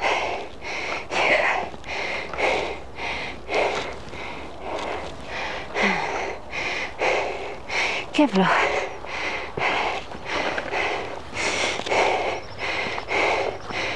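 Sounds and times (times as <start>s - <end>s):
person breathing hard: 0.0s - 13.9s.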